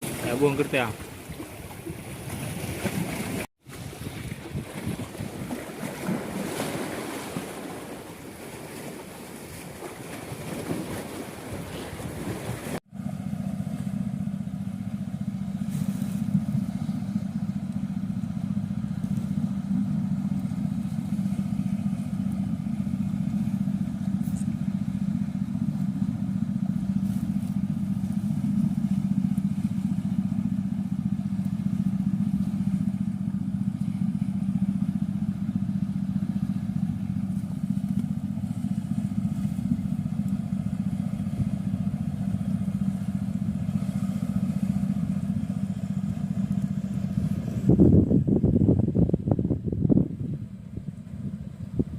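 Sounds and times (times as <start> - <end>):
small engine droning steadily: 0.0 - 51.9
surf: 0.0 - 51.9
wind: 0.0 - 51.9.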